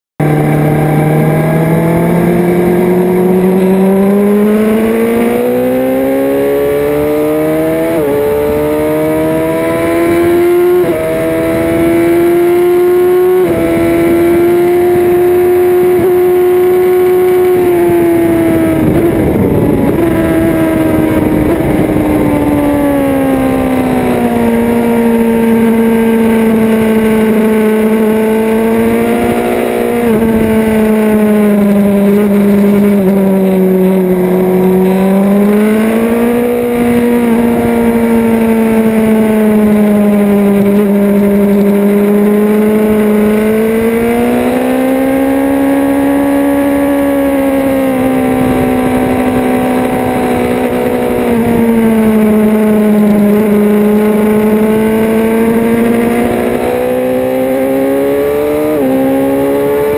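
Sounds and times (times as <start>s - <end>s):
motorcycle engine revving: 0.2s - 59.9s.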